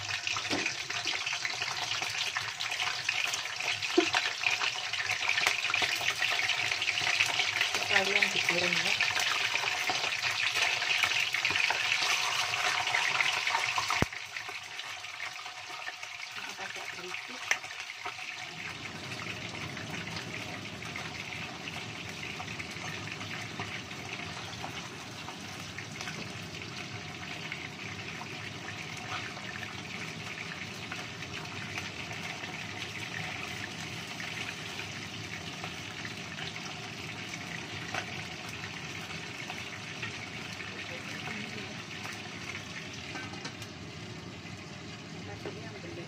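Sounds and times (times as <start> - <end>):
fish frying in hot oil: 0.0 - 46.0.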